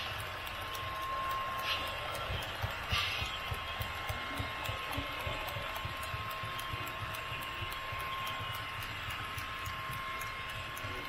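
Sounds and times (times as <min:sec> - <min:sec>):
model train wheels clattering: 0:00.0 - 0:11.0.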